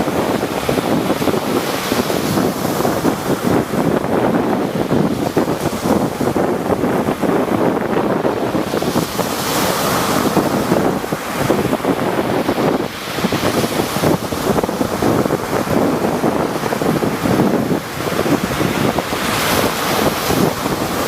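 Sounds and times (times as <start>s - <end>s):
waves breaking: 0.0s - 21.0s
wind buffeting microphone: 0.0s - 21.0s.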